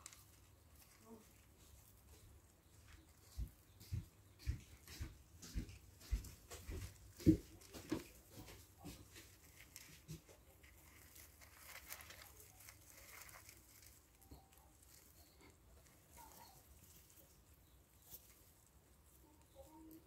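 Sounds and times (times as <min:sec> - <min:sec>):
wood shavings rustling and crackling: 0:00.0 - 0:03.8, 0:04.6 - 0:20.0.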